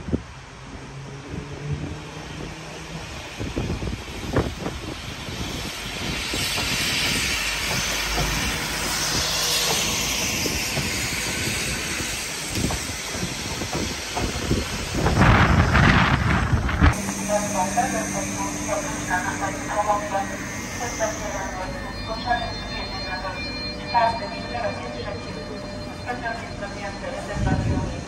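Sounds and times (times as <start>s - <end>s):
diesel train engine running: 1.9s - 28.0s.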